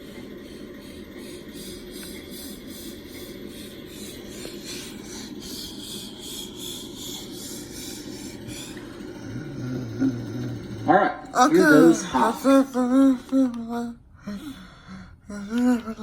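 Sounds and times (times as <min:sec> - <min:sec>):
ceiling fan motor buzz: 0:00.0 - 0:16.0.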